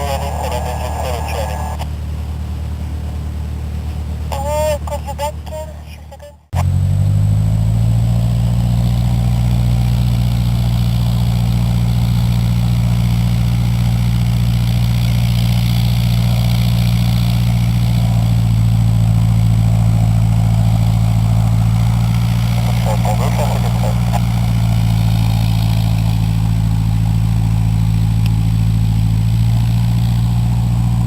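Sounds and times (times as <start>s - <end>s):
light aircraft propeller engine drone: 0.0s - 31.0s.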